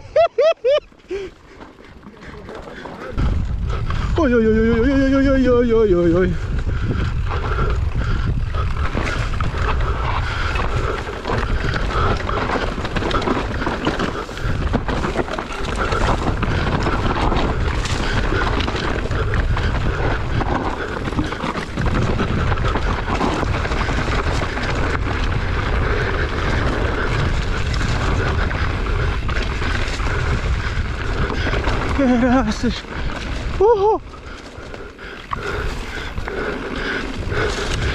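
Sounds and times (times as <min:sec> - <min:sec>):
bike rattling over bumps: 0:00.1 - 0:37.9
tyres on dirt and stones: 0:00.1 - 0:37.9
wind buffeting microphone: 0:01.1 - 0:37.9.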